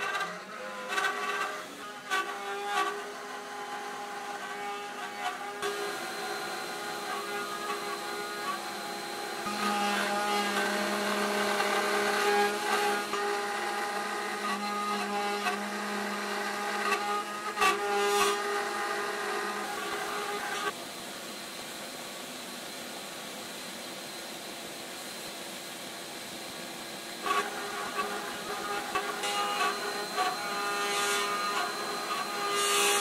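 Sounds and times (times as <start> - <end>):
router whining: 0.0 - 20.8, 26.5 - 33.0
dust collection vacuum: 0.0 - 33.0.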